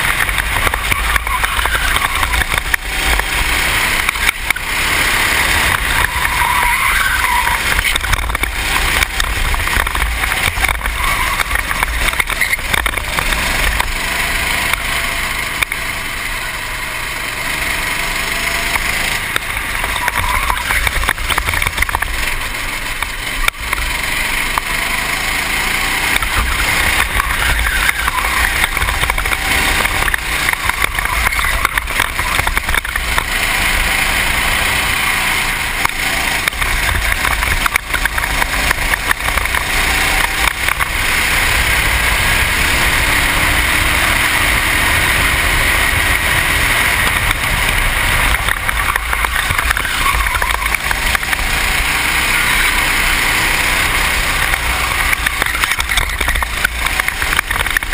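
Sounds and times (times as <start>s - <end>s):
racing kart engine: 0.0s - 57.9s.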